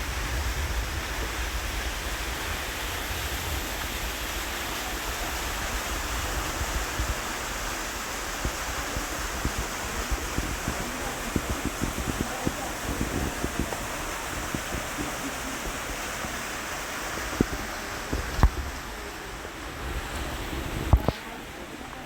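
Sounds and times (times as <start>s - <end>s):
flowing water rushing: 0.0s - 22.0s.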